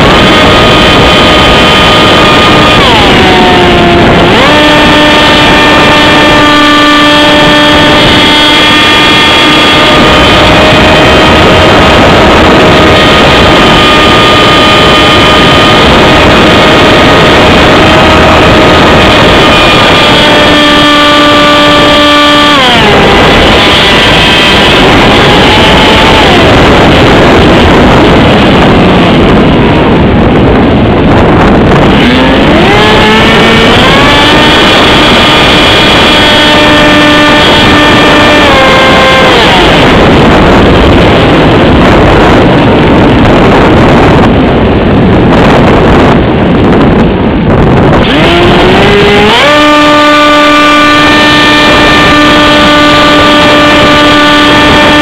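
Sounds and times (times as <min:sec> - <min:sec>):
electric motor and propeller whine: 0:00.0 - 0:55.0
wind rush on microphone: 0:00.0 - 0:55.0.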